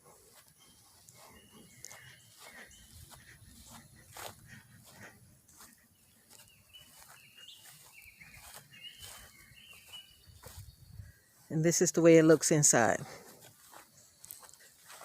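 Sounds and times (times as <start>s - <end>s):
faint bird chirping: 0.1s - 11.6s, 13.6s - 15.0s.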